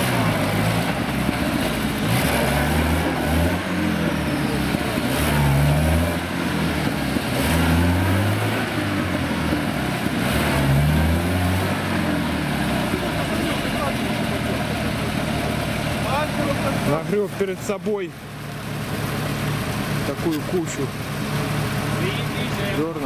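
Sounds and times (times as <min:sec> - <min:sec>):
van engine revving: 0:00.0 - 0:23.0.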